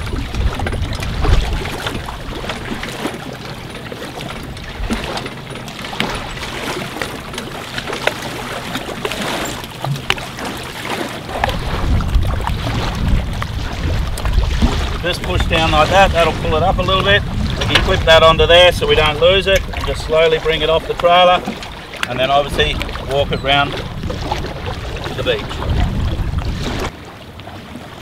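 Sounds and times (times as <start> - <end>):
wind rumble on microphone: 0.0 - 7.4, 11.3 - 28.0
water lapping: 0.0 - 28.0.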